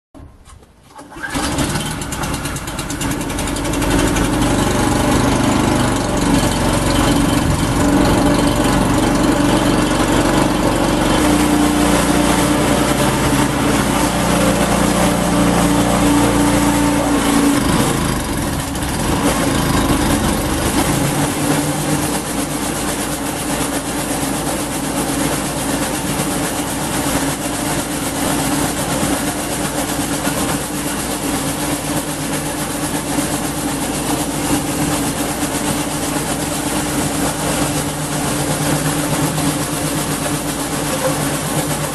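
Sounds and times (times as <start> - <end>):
wood chipper engine running: 0.9 - 41.9.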